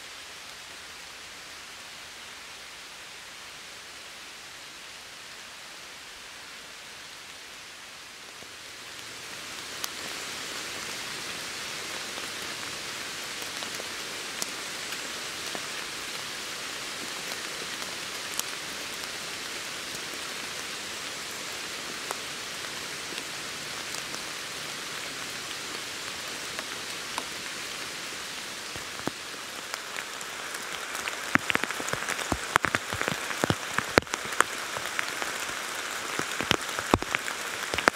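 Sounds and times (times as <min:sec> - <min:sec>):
rain pattering: 0:05.3 - 0:37.9.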